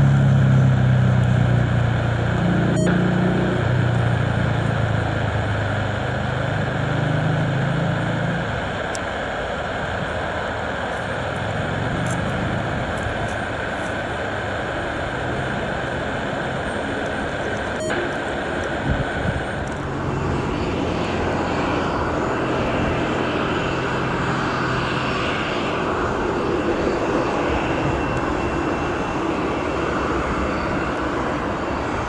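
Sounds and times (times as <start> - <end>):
turboprop engines droning: 0.0 - 32.0.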